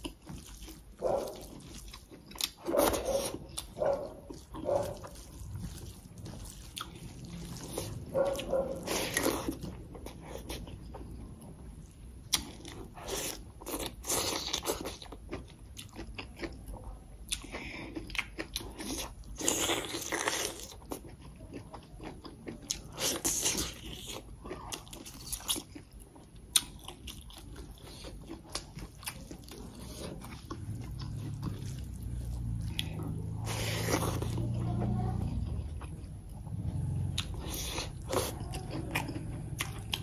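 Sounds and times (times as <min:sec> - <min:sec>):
person chewing and smacking: 0:00.0 - 0:40.0.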